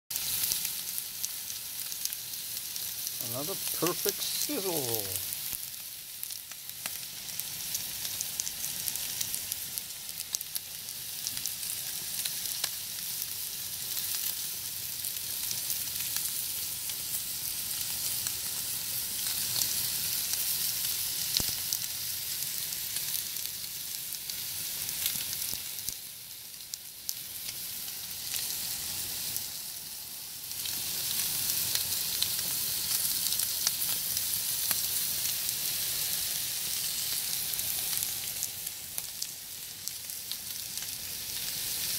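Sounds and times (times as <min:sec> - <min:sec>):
steaks sizzling on a grill: 0:00.1 - 0:41.9.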